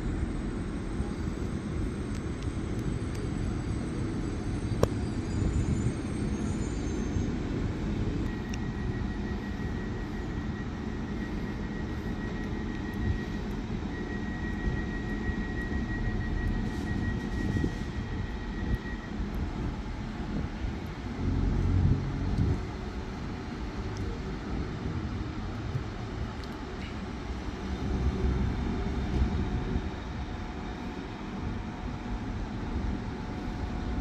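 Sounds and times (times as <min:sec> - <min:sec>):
diesel trains idling: 0:00.0 - 0:34.0.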